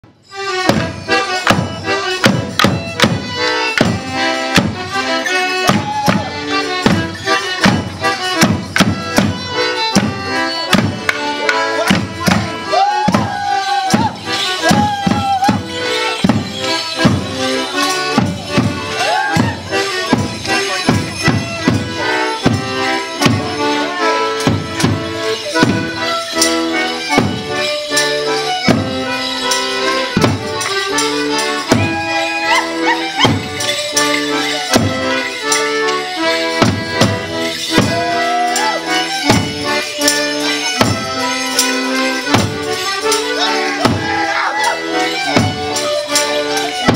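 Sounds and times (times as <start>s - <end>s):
band playing dance tune: 0.1s - 46.9s
drum beating steady beat: 0.3s - 46.9s.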